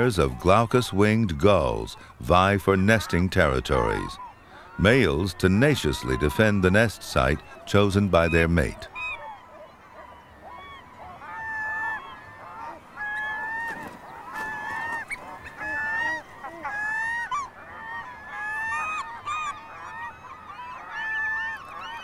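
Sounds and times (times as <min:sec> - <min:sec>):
gulls calling: 0:00.0 - 0:22.0.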